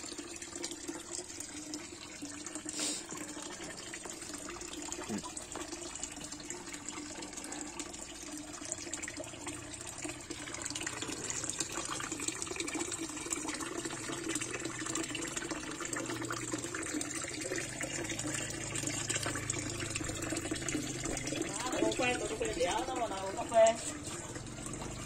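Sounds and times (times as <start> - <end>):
water pouring into a pond: 0.0 - 25.0.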